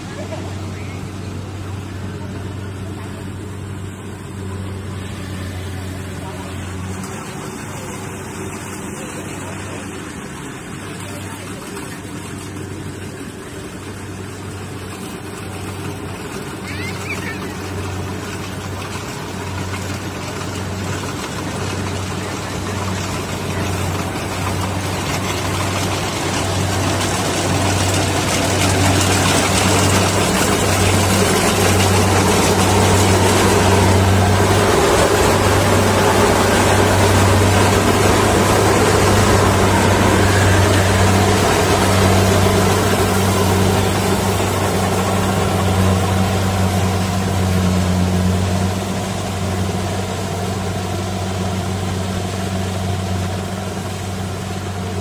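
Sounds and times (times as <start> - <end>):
harvester engine humming: 0.0 - 55.0
machinery clatter: 0.0 - 55.0.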